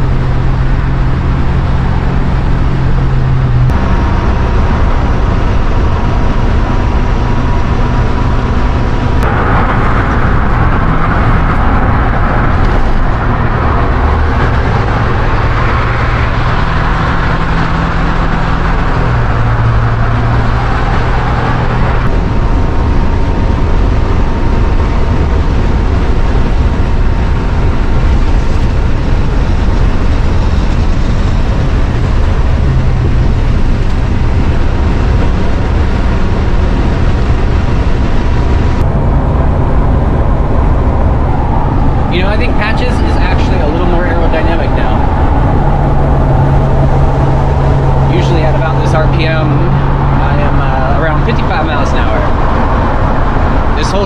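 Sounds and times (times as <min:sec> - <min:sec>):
engine drone: 0:00.0 - 0:54.0
road and wind noise: 0:00.0 - 0:54.0.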